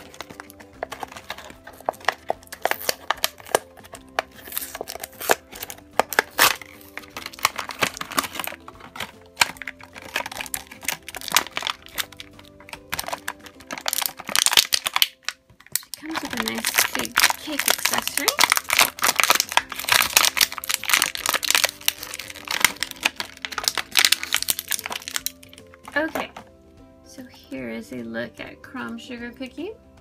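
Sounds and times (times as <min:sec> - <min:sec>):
plastic packaging crackling: 0:00.0 - 0:26.5
light background music: 0:00.0 - 0:30.0.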